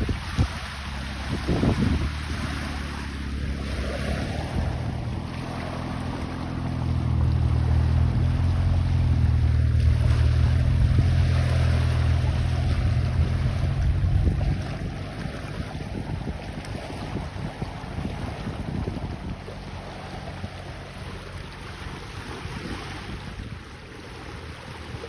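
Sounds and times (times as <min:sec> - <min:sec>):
low steady hum: 0:00.0 - 0:22.5
water: 0:00.0 - 0:25.0
wind rumbling on microphone: 0:00.0 - 0:25.0.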